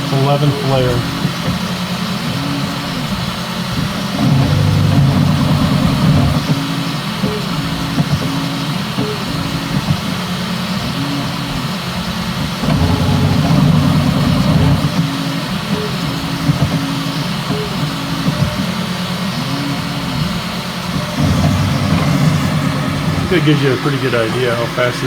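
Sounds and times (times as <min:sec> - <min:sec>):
steady hiss: 0:00.0 - 0:25.0
three-d printer motors humming: 0:00.0 - 0:25.0.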